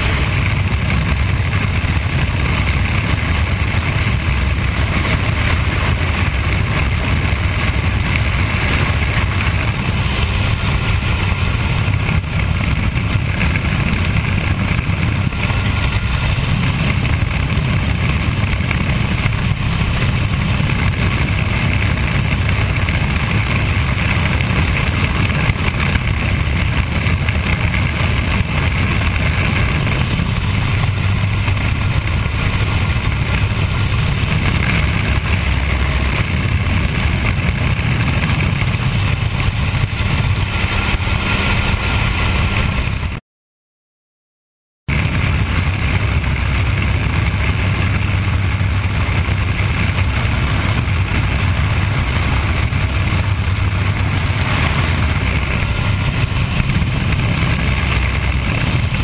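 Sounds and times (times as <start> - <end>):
propeller plane engine running: 0.0 - 43.2, 44.8 - 59.0
wind rushing over microphone: 0.0 - 43.2, 44.9 - 59.0.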